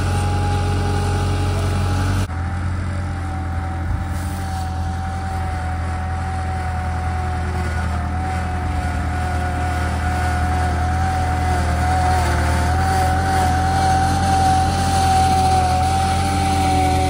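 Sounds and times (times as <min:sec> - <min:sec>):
engine running with low hum: 0:00.0 - 0:17.0
high whine: 0:00.0 - 0:17.0.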